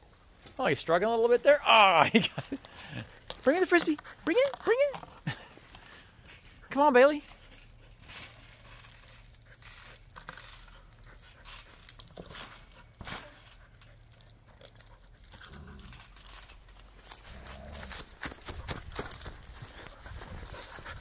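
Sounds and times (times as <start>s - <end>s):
collar tags jingling: 1.0s - 21.0s.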